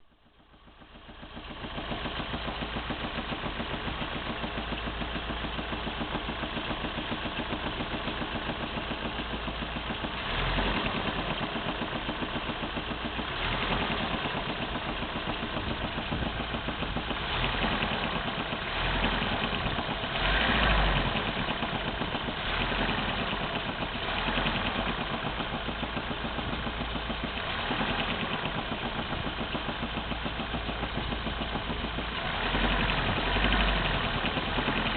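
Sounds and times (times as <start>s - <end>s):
car engine knocking at idle: 0.2s - 34.9s
engine revving: 1.7s - 34.9s.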